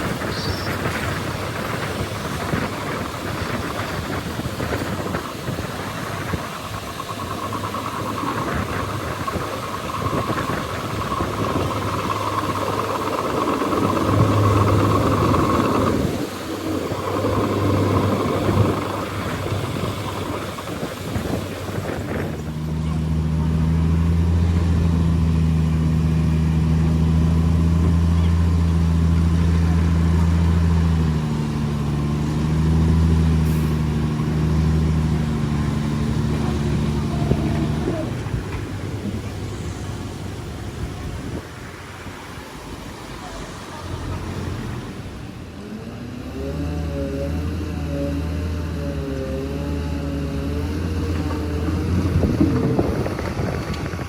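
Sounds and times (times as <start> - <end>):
high whine: 0.0 - 43.3
heavy diesel machinery engines: 0.0 - 54.0.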